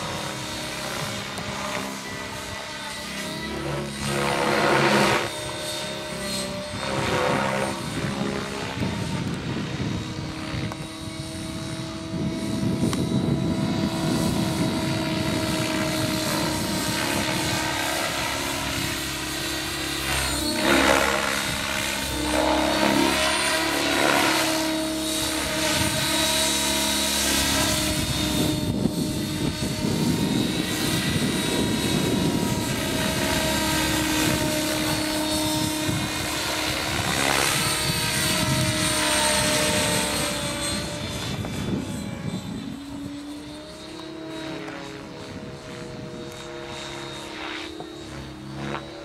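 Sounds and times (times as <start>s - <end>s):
rc helicopter motor whine: 0.0s - 49.0s
rotor blades whooshing: 0.0s - 49.0s.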